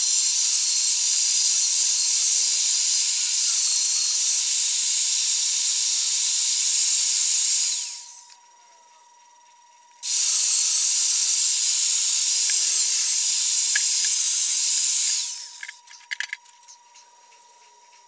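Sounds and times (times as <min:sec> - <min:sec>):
steady hiss: 0:00.0 - 0:08.4, 0:10.0 - 0:18.0.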